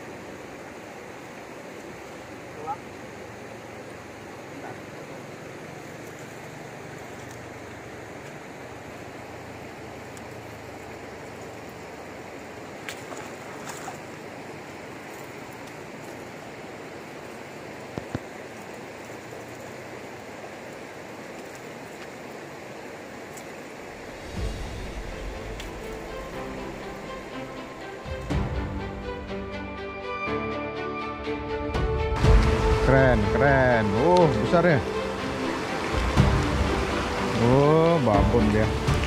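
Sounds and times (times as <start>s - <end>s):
fast-flowing river: 0.0s - 39.0s.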